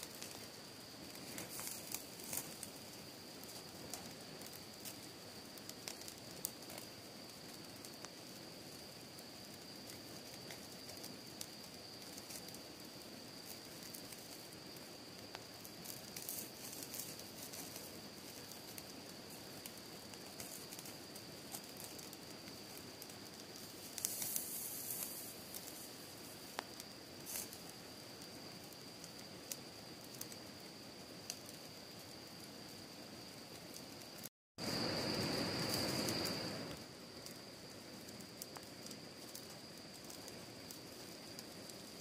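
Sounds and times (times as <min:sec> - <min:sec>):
fire crackling and popping: 0:00.0 - 0:42.0
low hiss: 0:00.0 - 0:42.0.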